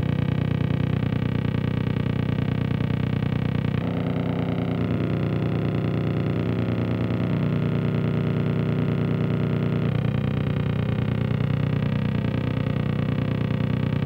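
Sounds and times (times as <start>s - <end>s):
pulsing electronic buzz drone: 0.0s - 14.0s.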